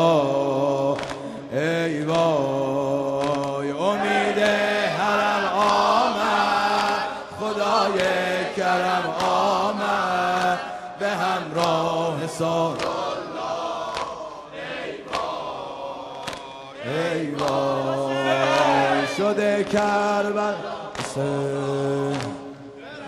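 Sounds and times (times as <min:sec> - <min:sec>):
man singing a lament into a microphone: 0:00.0 - 0:13.0, 0:16.1 - 0:23.0.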